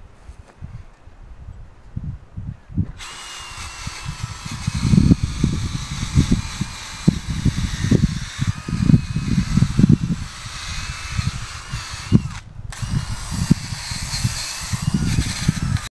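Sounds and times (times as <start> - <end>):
cordless drill grinding metal: 3.0 - 15.9.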